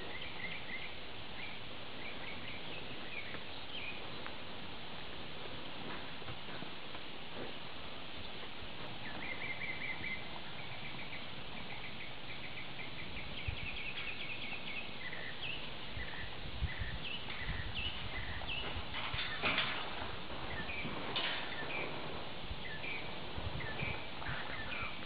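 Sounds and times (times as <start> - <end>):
background hiss: 0.0 - 25.0
songbirds chirping: 0.0 - 25.0.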